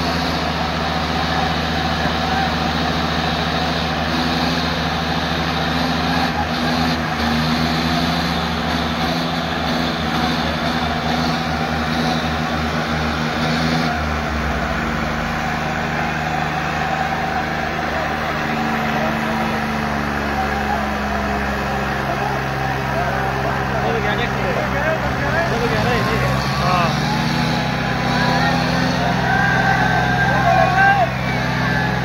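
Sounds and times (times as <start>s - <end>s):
tractor diesel engines under load: 0.0s - 32.0s.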